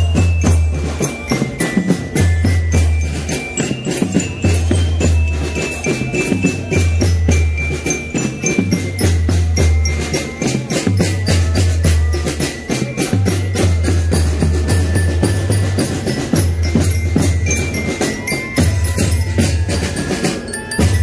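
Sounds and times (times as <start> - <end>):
high held melody: 0.0 - 21.0
rapid drum strikes: 0.0 - 21.0.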